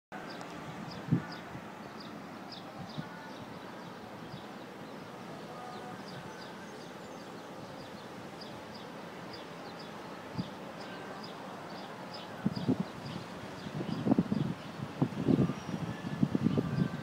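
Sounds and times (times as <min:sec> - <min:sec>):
outdoor background noise: 0:00.1 - 0:17.0
small birds chirping: 0:00.3 - 0:17.0.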